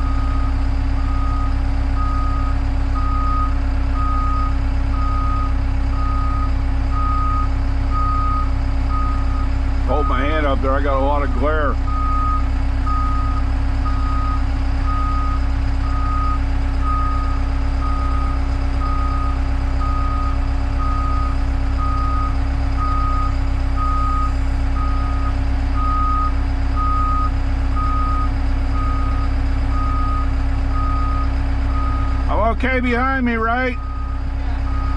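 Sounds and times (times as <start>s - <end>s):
back-up warning beeper: 0.0s - 10.6s, 11.8s - 34.9s.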